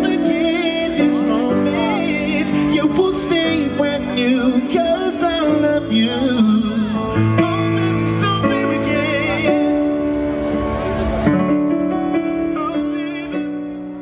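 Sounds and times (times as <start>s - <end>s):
man singing a ballad: 0.0s - 10.3s, 12.0s - 14.0s
grand piano chords: 0.0s - 14.0s.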